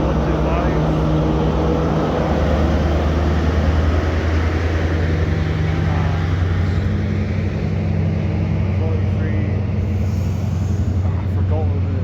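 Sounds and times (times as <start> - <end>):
passenger train running: 0.0 - 12.0.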